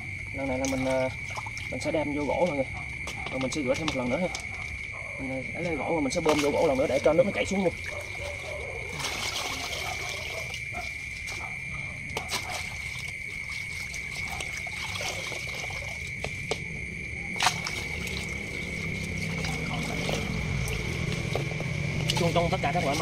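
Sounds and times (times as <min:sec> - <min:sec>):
water trickling and dripping: 0:00.0 - 0:23.0.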